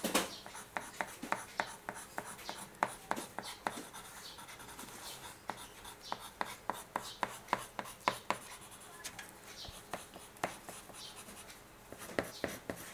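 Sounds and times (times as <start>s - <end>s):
pencil scratching on paper: 0.4s - 12.9s.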